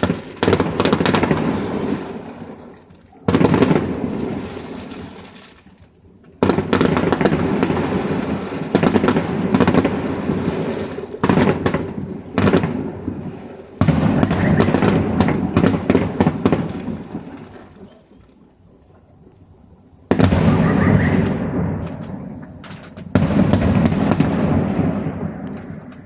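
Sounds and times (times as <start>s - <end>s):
fireworks booming: 0.0s - 26.0s
fireworks crackling: 0.0s - 26.0s.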